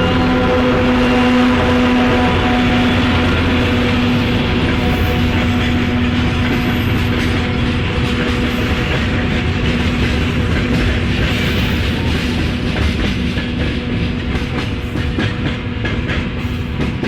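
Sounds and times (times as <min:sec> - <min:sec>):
freight train rolling past: 0:00.0 - 0:17.0
wheels clacking over rail joints: 0:01.6 - 0:17.0.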